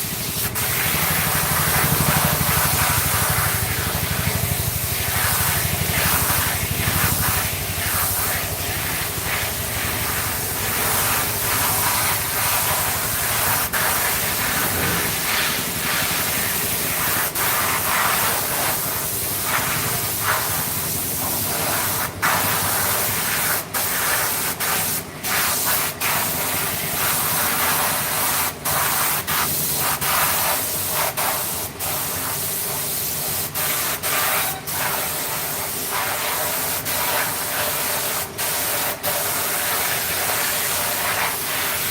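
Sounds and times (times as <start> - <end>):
compressed air hissing: 0.0 - 41.9.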